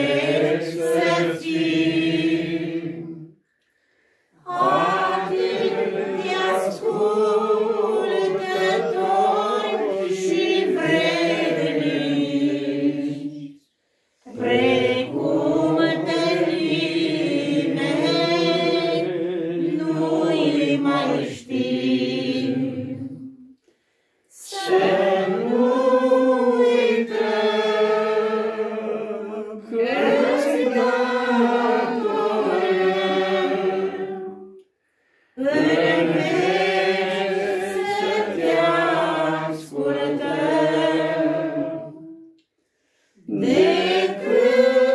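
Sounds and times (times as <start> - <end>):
group singing a hymn unaccompanied: 0.0 - 23.6, 24.3 - 44.9.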